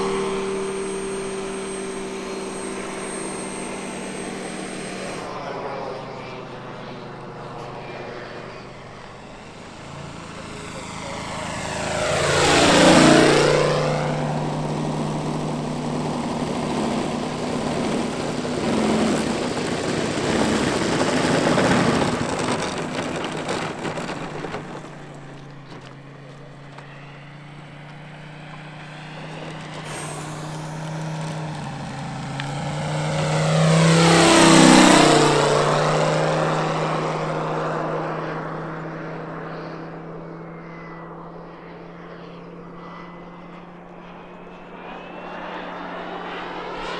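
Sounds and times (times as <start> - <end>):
model plane radial engine passing: 0.0 - 46.9.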